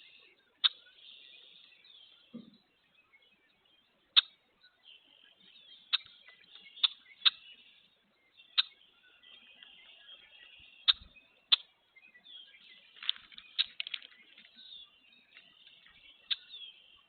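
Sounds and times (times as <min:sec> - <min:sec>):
distant birds chattering: 0:00.0 - 0:17.0.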